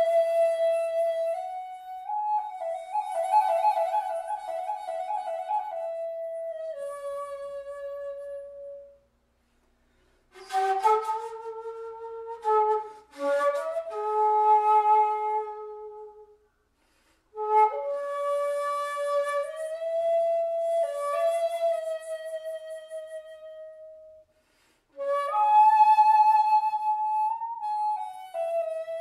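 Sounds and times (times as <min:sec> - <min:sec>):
bamboo flute melody: 0:00.0 - 0:09.1, 0:10.3 - 0:16.4, 0:17.3 - 0:24.3, 0:24.9 - 0:29.0.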